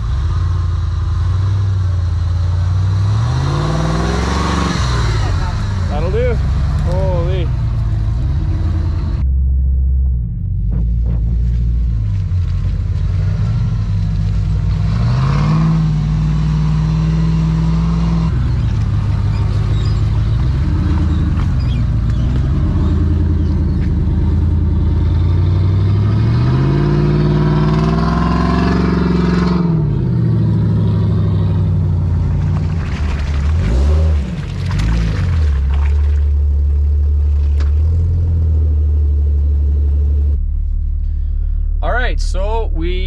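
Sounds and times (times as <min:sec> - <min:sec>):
off-road vehicle engine revving: 0:00.0 - 0:43.0.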